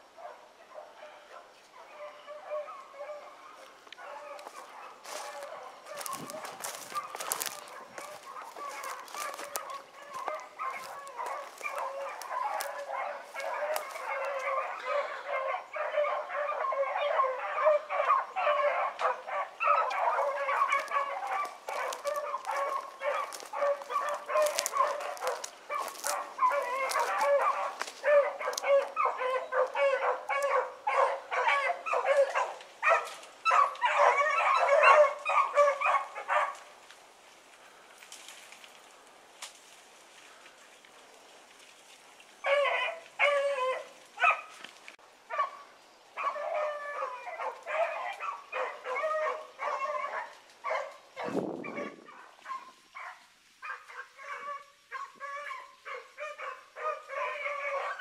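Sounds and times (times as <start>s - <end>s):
hounds baying: 0.1s - 36.7s, 42.4s - 44.6s, 45.3s - 58.0s.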